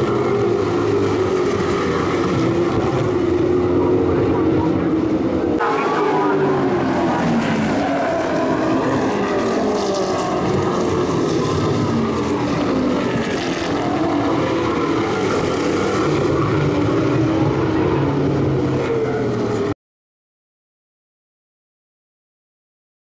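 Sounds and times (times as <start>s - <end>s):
race car engines lapping: 0.0s - 19.8s.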